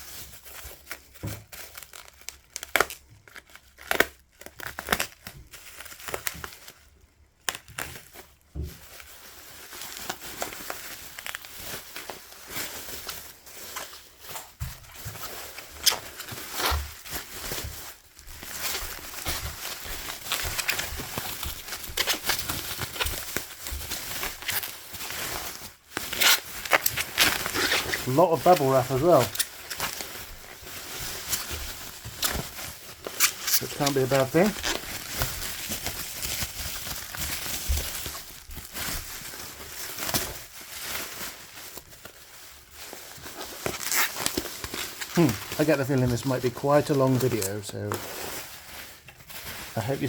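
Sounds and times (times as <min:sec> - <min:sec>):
bubble wrap crinkling and crackling: 0:00.0 - 0:50.0.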